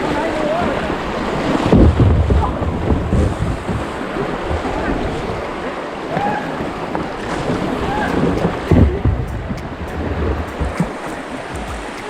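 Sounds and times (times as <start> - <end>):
wind buffeting microphone: 0.0 - 5.7, 6.6 - 12.0
rushing river water: 0.0 - 12.0.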